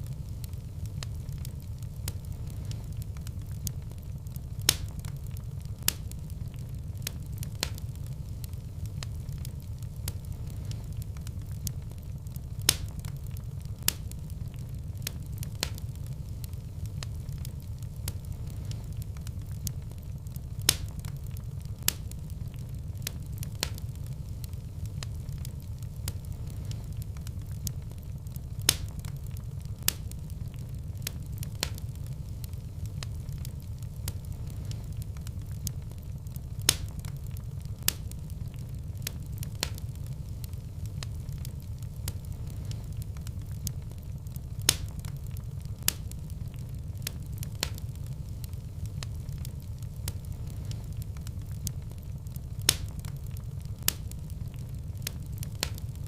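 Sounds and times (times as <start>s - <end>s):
fire crackling and popping: 0.0s - 56.0s
fire rumbling: 0.0s - 56.0s.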